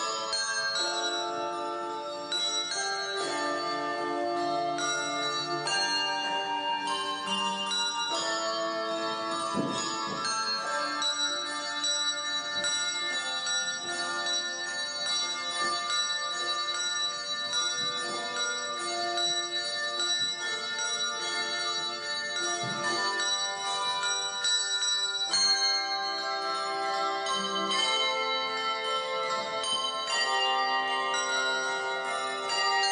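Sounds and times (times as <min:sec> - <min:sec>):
handbell choir ringing chords: 0:00.0 - 0:32.9.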